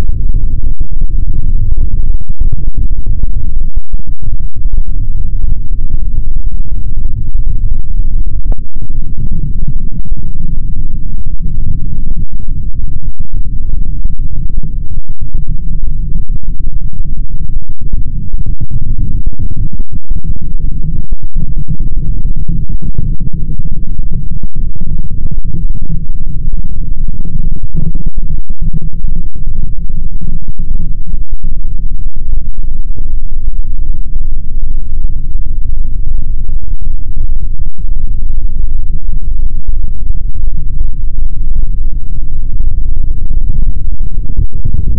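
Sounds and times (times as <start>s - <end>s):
distorted electronic drone: 0.0s - 32.0s, 32.8s - 44.9s.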